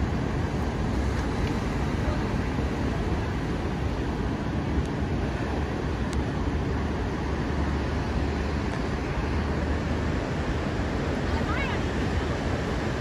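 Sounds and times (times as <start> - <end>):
large surf breaking: 0.0 - 13.0.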